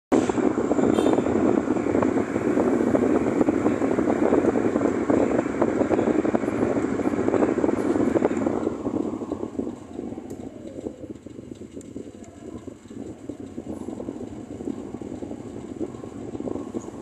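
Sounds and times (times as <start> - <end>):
gusty wind rushing: 0.1 - 17.0.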